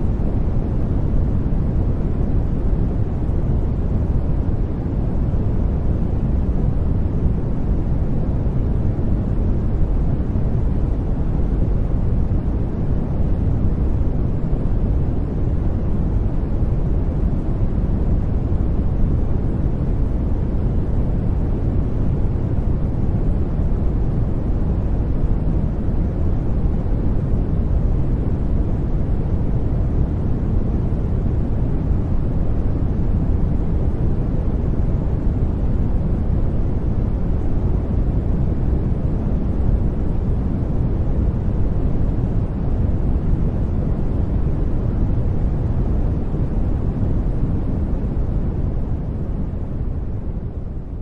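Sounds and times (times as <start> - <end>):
deep rushing white noise: 0.0 - 51.0.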